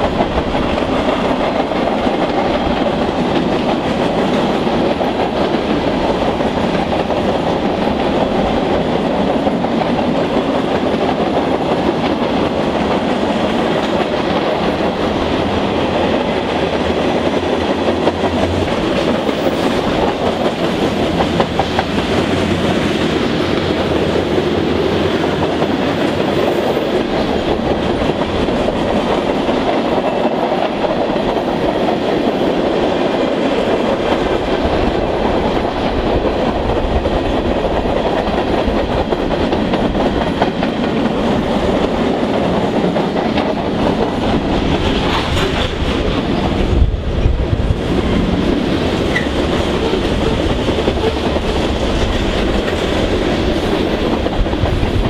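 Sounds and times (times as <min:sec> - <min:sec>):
freight train rumbling past: 0:00.0 - 0:55.0
wheels clacking on track: 0:00.0 - 0:55.0.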